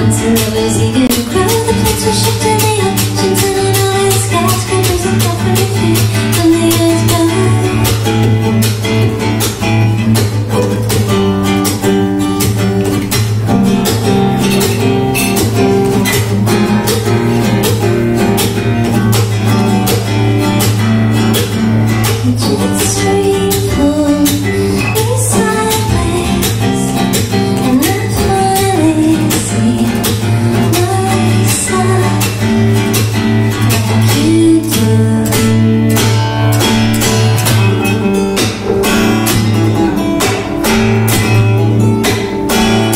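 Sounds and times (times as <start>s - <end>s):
acoustic guitar strumming: 0.0s - 42.9s.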